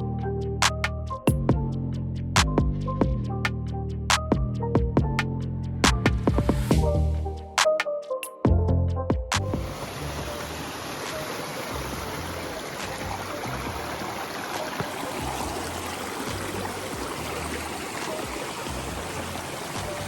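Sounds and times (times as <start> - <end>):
background music with low bass: 0.0 - 10.7, 11.8 - 14.2, 15.1 - 20.0.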